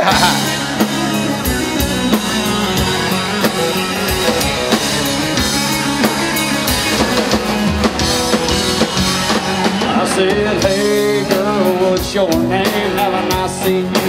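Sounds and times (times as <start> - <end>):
bass guitar: 0.0 - 14.0
drum kit beat: 0.0 - 14.0
electric guitar: 0.0 - 14.0.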